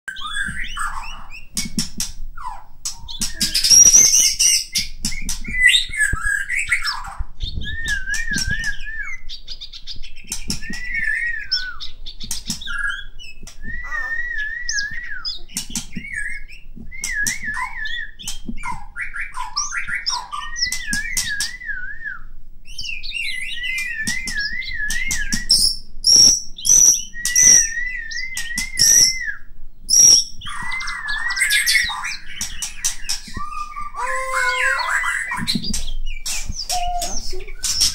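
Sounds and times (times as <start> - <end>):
bird singing whistles and clicks: 0.1 - 37.9.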